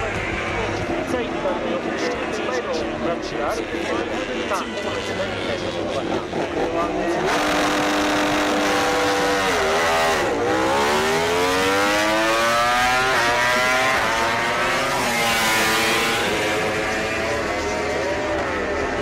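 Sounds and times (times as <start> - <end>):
racing motorcycle engine revving: 0.0 - 19.0.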